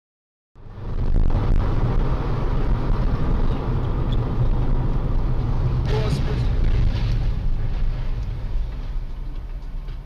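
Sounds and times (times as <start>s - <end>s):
car driving on road rumble: 0.6s - 10.0s.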